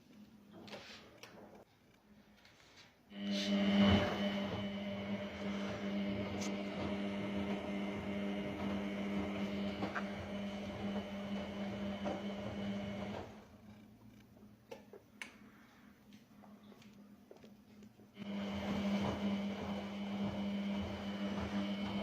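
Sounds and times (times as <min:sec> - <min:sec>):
washing machine humming: 0:03.0 - 0:15.4, 0:16.3 - 0:22.0.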